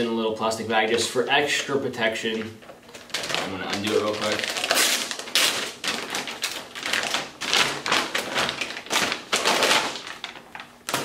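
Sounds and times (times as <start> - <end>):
plastic bag crinkling: 2.1 - 11.0.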